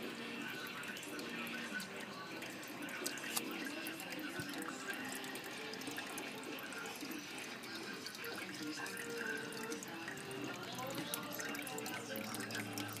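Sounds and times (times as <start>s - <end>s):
water trickling over rock: 0.0s - 13.0s.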